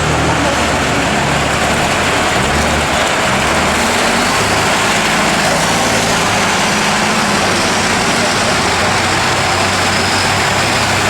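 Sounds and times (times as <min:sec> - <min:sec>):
diesel truck engine running: 0:00.0 - 0:11.0
steady rushing noise: 0:00.0 - 0:11.0.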